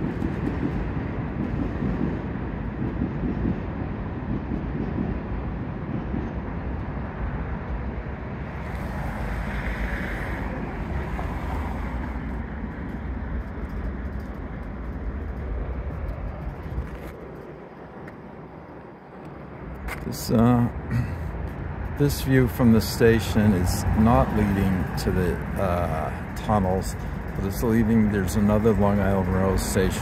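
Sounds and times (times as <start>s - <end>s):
city traffic noise: 0.0s - 30.0s
wind rumbling on microphone: 0.0s - 30.0s.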